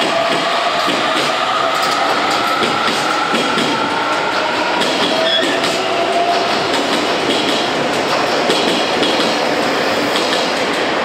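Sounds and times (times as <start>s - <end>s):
electric train running past: 0.0s - 11.0s.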